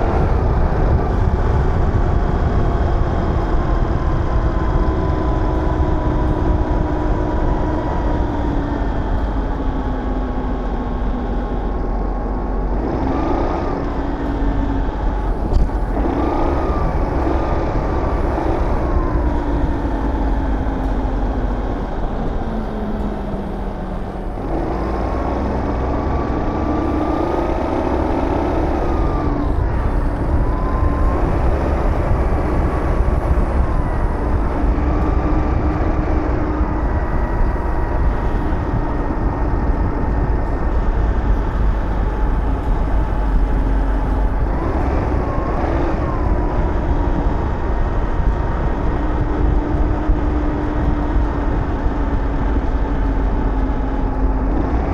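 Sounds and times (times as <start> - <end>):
wind rumble on microphone: 0.0 - 54.9.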